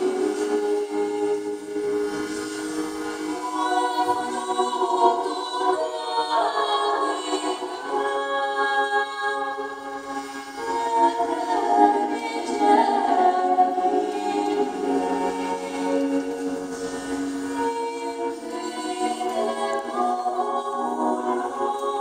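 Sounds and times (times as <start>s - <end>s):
voices singing: 0.0s - 22.0s.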